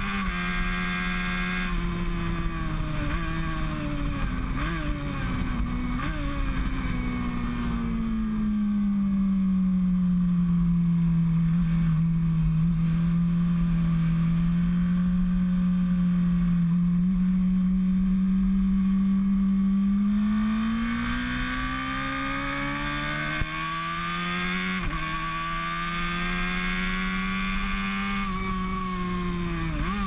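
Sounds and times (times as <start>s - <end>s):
racing motorcycle engine accelerating: 0.0s - 30.0s.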